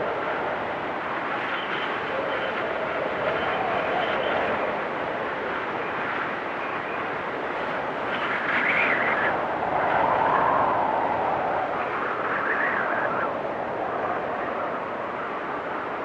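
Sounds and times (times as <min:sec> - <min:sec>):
wind storm with whistling gusts: 0:00.0 - 0:16.0.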